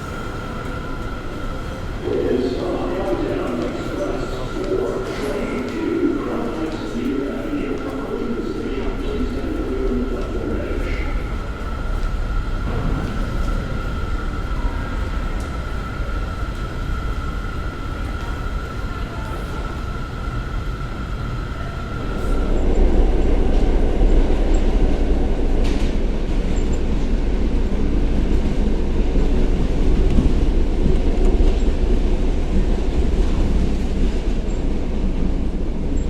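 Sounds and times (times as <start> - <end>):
subway train rumble: 0.0 - 36.0.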